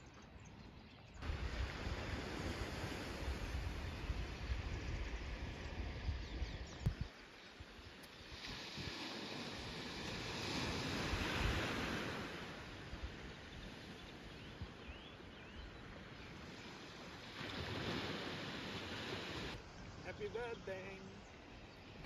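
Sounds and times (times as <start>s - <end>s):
small waves breaking on beach: 1.2s - 22.0s.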